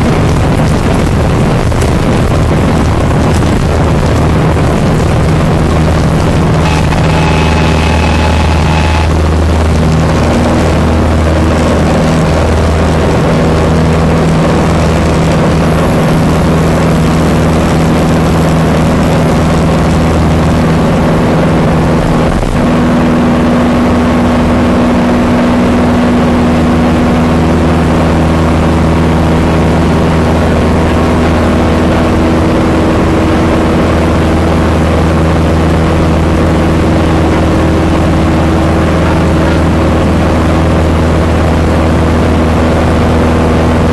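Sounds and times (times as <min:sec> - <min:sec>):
propeller plane engine drone: 0:00.0 - 0:43.9.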